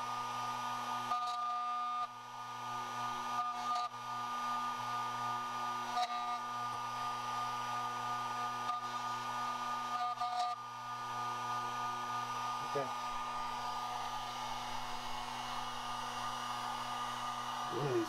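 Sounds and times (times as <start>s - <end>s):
key cutter motor whining: 0.0s - 18.0s.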